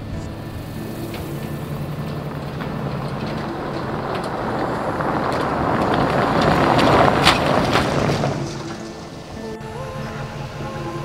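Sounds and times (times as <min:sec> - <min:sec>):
road noise: 0:00.0 - 0:11.0
vehicle engine driving: 0:00.0 - 0:11.0.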